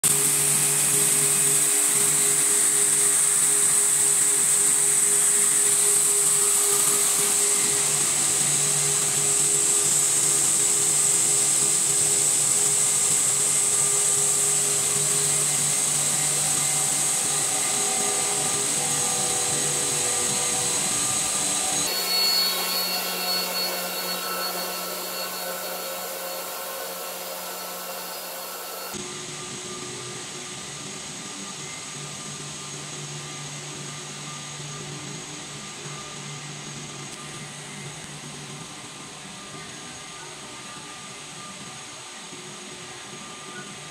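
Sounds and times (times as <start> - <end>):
extrusion machinery whining and humming: 0.0 - 43.9.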